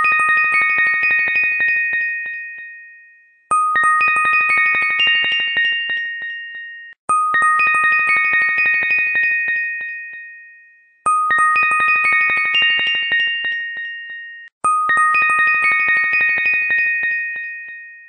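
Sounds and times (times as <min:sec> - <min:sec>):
chime-like bell tones: 0:00.0 - 0:18.0.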